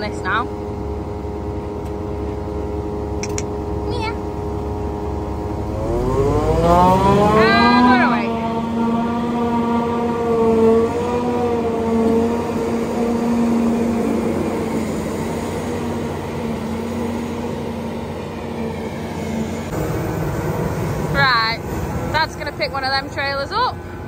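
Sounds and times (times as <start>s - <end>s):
harvester machine drone: 0.0s - 24.0s.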